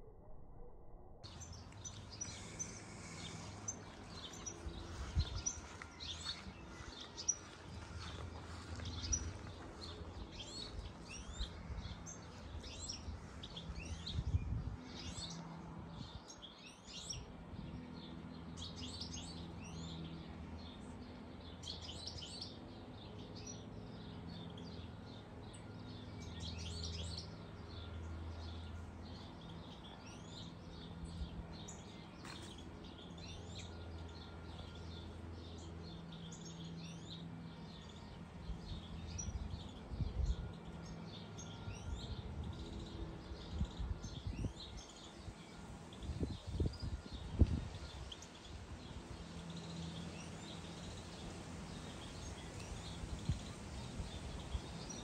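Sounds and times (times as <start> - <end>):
songbirds chirping and twittering: 1.2 - 55.0.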